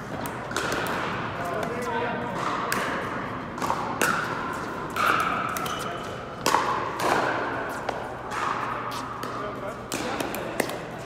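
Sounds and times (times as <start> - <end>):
paddles hitting plastic ball: 0.1 - 11.0.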